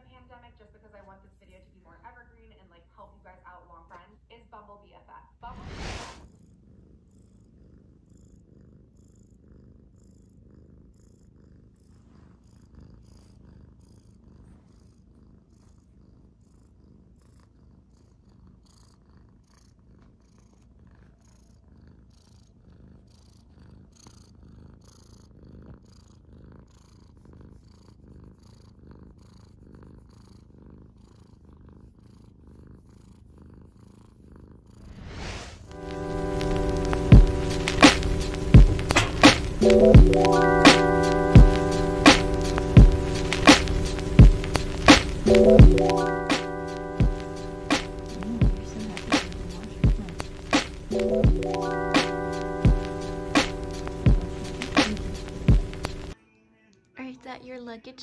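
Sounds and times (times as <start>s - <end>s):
cat purring: 0.0s - 56.2s.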